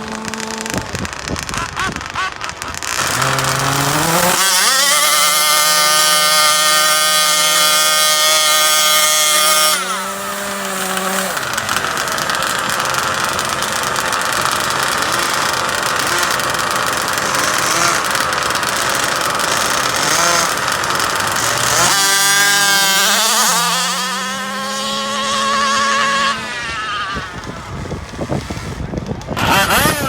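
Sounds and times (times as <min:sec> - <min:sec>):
model car engines revving: 0:00.0 - 0:30.0.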